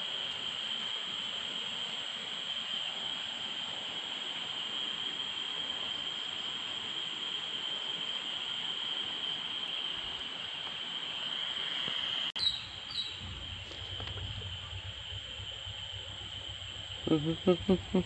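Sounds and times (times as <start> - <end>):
night insects chorus: 0.0 - 18.0.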